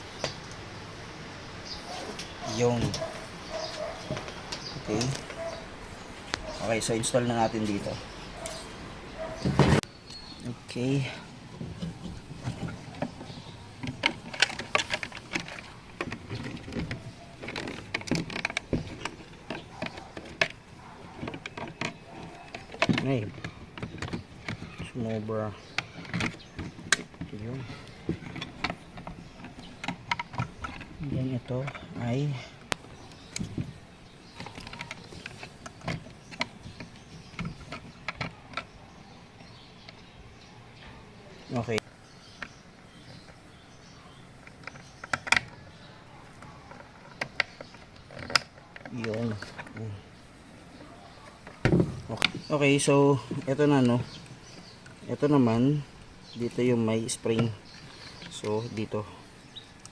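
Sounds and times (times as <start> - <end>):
parts clicking and knocking: 9.2 - 40.1, 41.5 - 50.5, 51.2 - 59.9.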